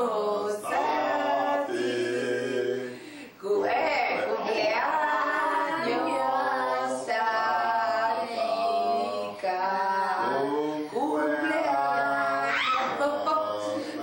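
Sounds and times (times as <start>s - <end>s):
voices singing unaccompanied: 0.0s - 14.0s.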